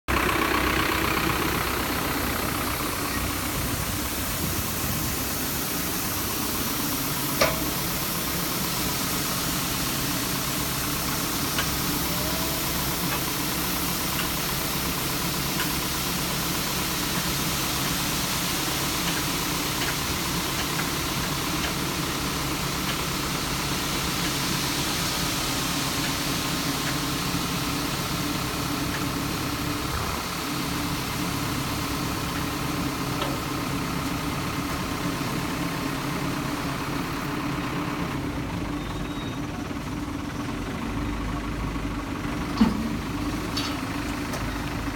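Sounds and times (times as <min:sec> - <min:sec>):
grain pouring from trailer: 0:00.1 - 0:44.9
tractor diesel engine idling: 0:00.1 - 0:44.9.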